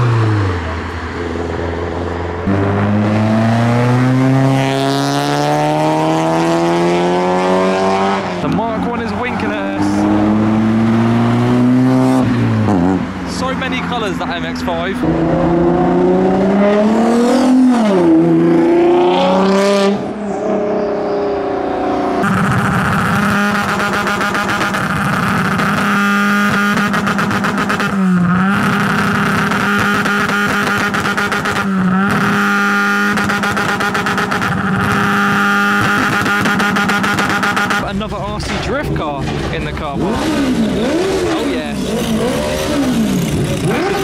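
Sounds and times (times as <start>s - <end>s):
car engine revving past: 0.0s - 8.6s, 9.4s - 13.5s, 15.0s - 37.8s
steady car engine note: 0.0s - 44.0s.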